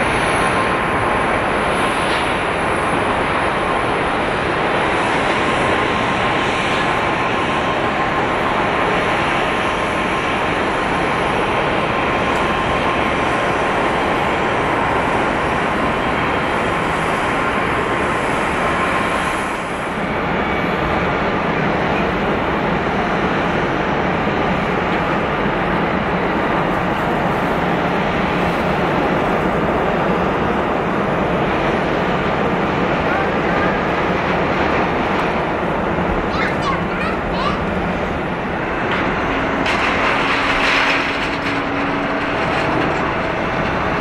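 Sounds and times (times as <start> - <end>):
high jet engine whine: 0.0 - 44.0
jet engines roaring: 0.0 - 44.0.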